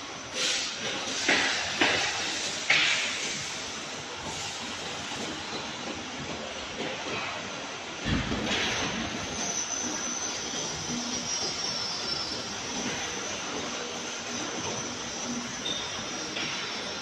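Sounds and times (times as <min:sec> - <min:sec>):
steady mechanical noise: 0:00.0 - 0:17.0.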